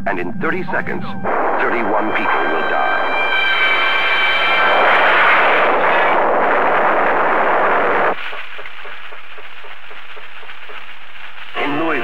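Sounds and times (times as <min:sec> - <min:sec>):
tornado wind rushing: 0:01.3 - 0:12.0.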